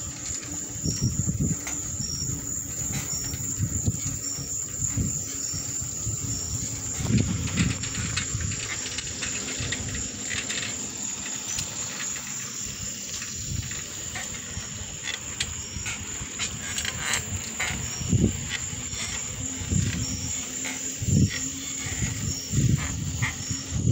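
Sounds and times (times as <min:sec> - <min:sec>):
wind gusting on microphone: 0:00.0 - 0:11.9, 0:12.6 - 0:23.9
bicycle rattling: 0:00.0 - 0:23.9
insect trill: 0:00.0 - 0:23.9.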